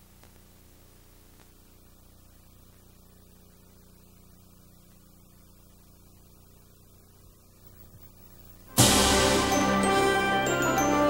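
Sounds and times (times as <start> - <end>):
faint mains hum with hiss: 0.0 - 11.0.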